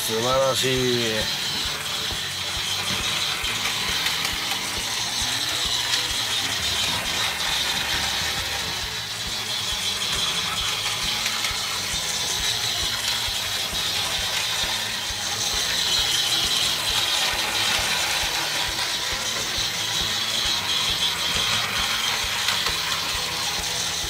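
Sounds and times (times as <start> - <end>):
toy train whirring gear rattle: 0.0 - 24.0.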